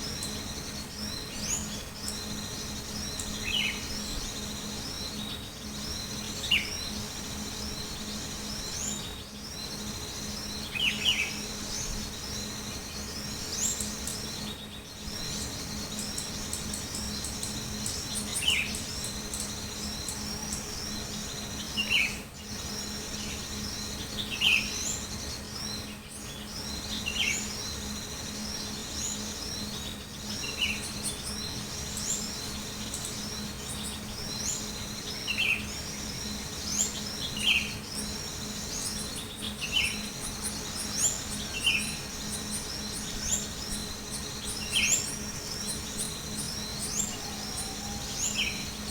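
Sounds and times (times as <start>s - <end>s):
songbirds twittering: 0.0s - 48.9s
steady low hum: 0.0s - 48.9s.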